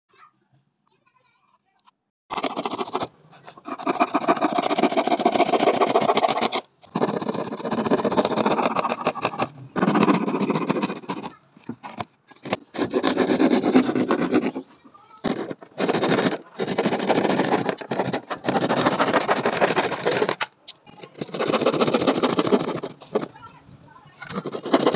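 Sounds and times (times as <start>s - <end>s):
handsaw cutting board: 2.3s - 23.4s, 24.2s - 24.9s.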